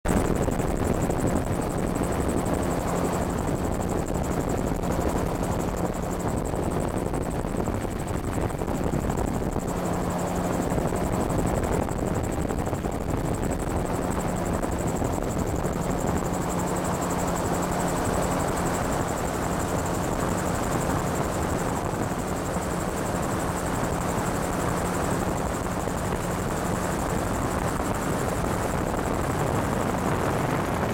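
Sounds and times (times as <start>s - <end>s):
airplane engine and propeller droning: 0.1s - 30.9s.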